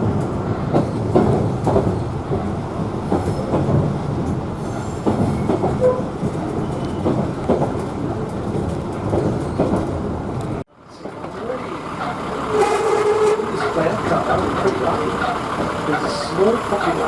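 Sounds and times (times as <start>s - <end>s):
diesel railcar rumbling: 0.0s - 17.0s
wheels knocking over rail joints: 0.0s - 17.0s.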